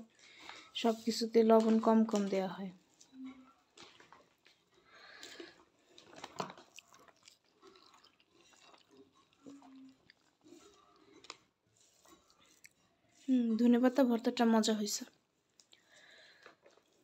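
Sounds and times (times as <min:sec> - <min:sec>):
chewing: 0:01.6 - 0:14.0, 0:15.1 - 0:17.0.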